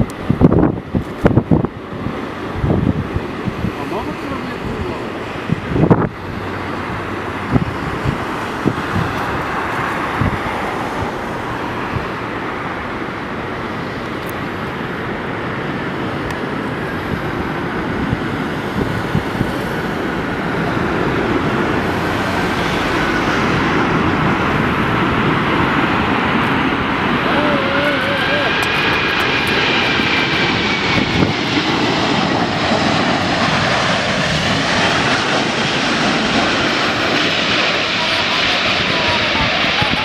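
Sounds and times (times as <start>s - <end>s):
jet engines droning: 0.0s - 40.0s
wind gusts on microphone: 0.0s - 40.0s.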